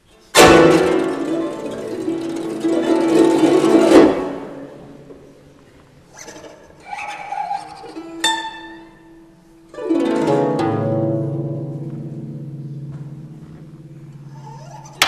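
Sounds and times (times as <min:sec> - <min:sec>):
guzheng plucked: 0:00.3 - 0:05.3, 0:07.7 - 0:15.0.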